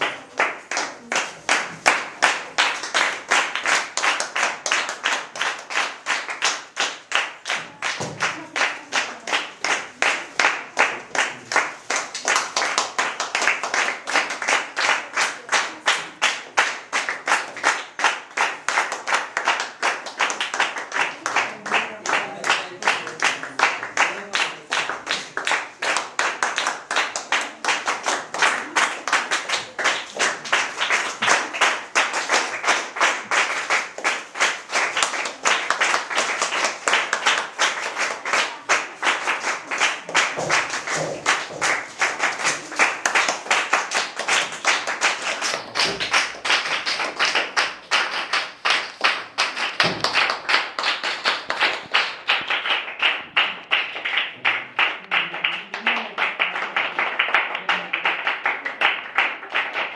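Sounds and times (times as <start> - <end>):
group clapping in rhythm: 0.0 - 59.9.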